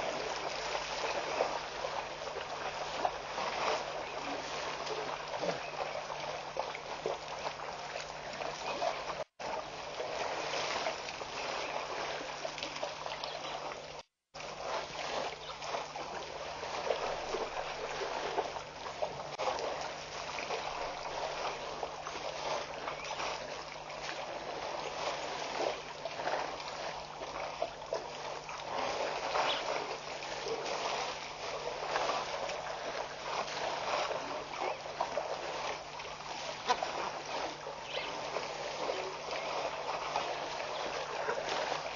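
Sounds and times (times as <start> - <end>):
water splashing and trickling: 0.0 - 41.9.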